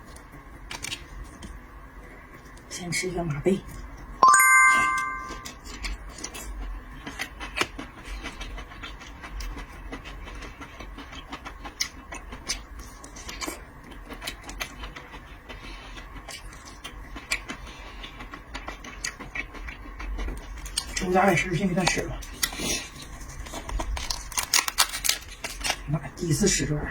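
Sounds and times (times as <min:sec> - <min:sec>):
chewing shellfish: 0:00.1 - 0:01.6, 0:05.4 - 0:26.1.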